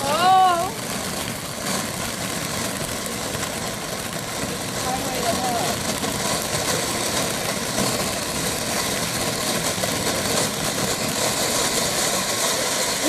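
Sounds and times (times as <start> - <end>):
fountain firework hissing sparks: 0.0 - 13.0.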